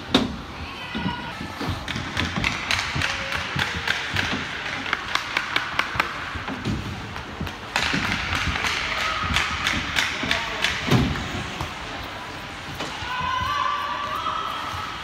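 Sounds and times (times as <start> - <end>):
hockey sticks clacking on ice: 1.3 - 13.6.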